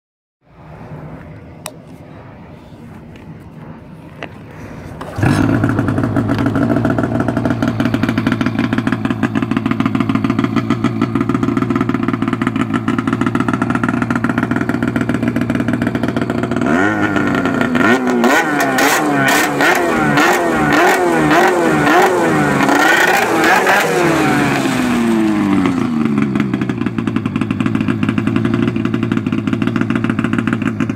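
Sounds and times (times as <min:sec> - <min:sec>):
snowmobile engine revving: 0:04.6 - 0:30.9.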